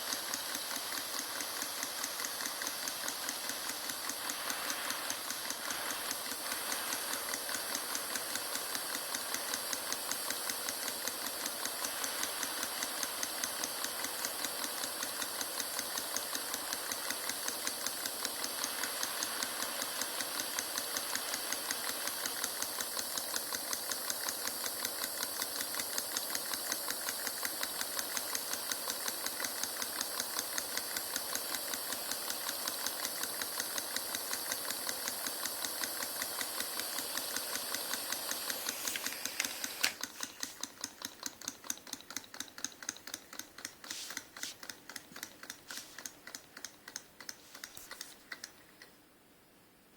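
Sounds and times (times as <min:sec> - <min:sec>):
stirling engine clicking: 0:00.0 - 0:48.6.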